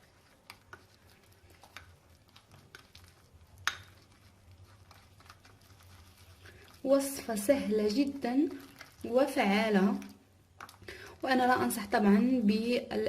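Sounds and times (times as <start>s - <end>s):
spoon stirring thick paste: 0.0s - 12.1s.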